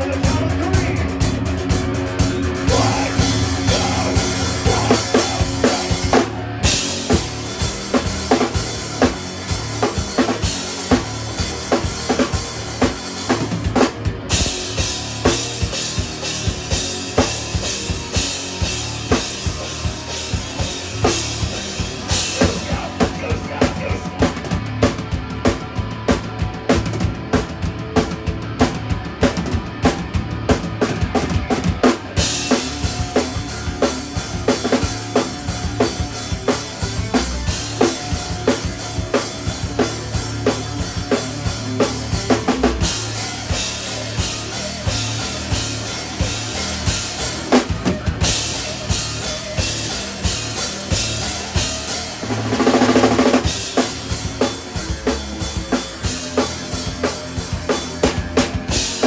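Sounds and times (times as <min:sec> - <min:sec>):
drum kit kick and snare: 0:00.0 - 0:59.0
instrumental band playing: 0:00.0 - 0:59.0.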